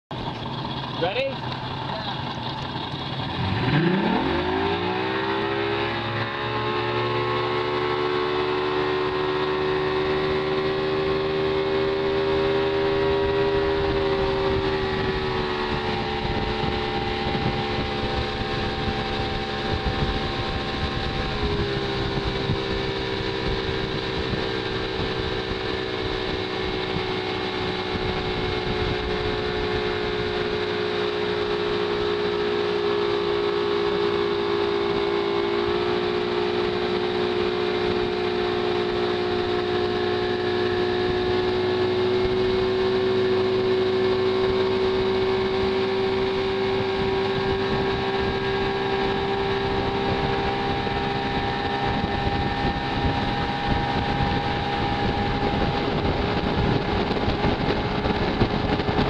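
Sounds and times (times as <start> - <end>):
boat engine revving: 0.1 - 59.0
water rushing: 0.1 - 59.0.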